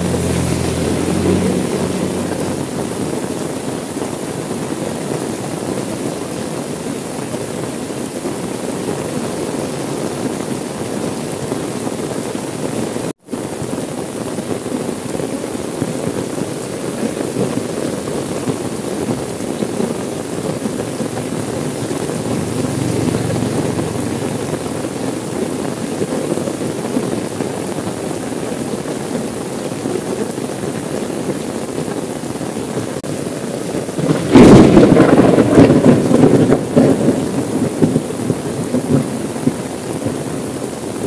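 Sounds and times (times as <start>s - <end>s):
rain pattering on a car: 0.0s - 41.0s.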